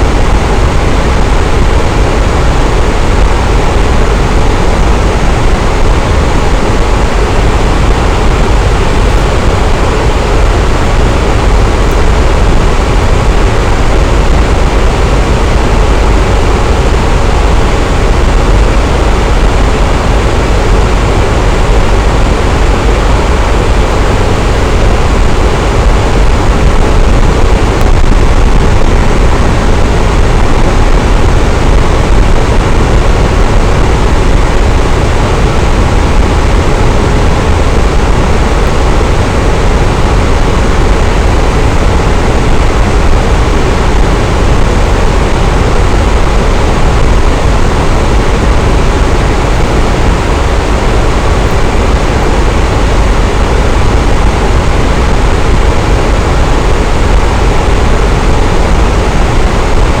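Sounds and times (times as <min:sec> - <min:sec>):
electric fan whooshing: 0:00.0 - 1:00.0.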